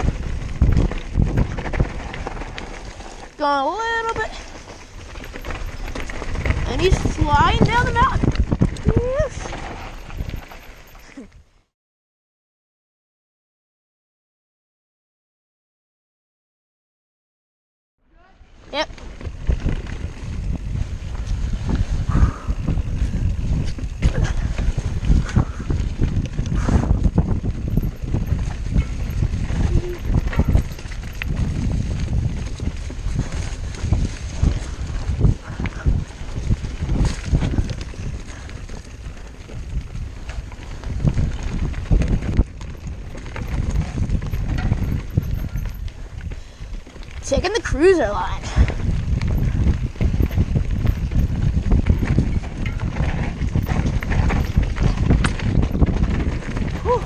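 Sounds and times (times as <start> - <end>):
mountain bike rattling over rough ground: 0.0 - 11.6, 18.1 - 57.0
wind and tyre rumble: 0.0 - 11.7, 18.0 - 57.0.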